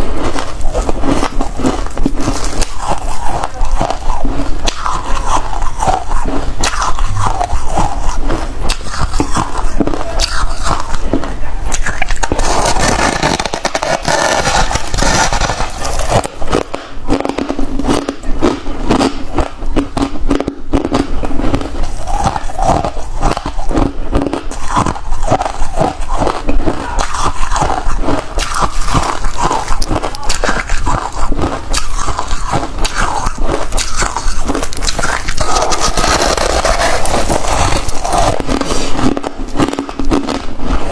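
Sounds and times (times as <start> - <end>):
chewing crunchy frost: 0.0 - 40.9.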